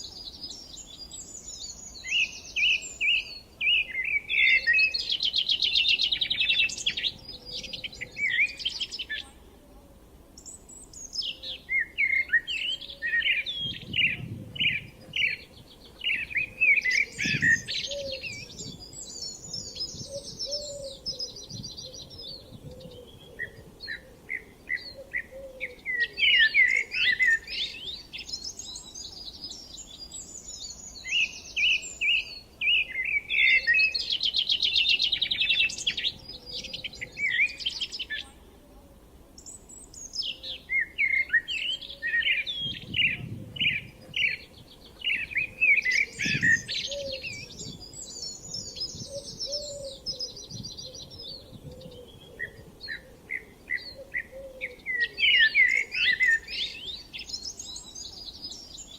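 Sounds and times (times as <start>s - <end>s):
songbirds singing: 0.0s - 58.9s.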